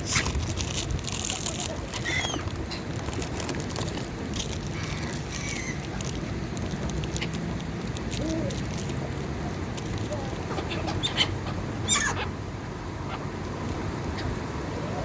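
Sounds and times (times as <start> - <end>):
birds calling: 1.8 - 6.4, 7.0 - 15.0.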